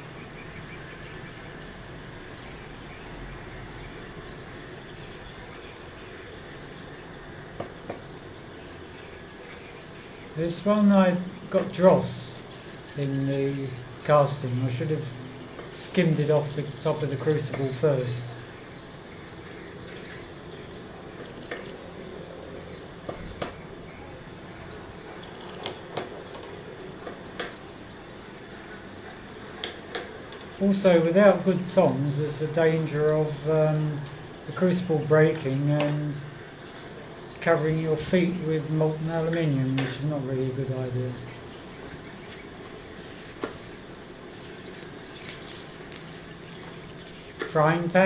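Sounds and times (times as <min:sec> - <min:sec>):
background hiss: 0:00.0 - 0:48.0.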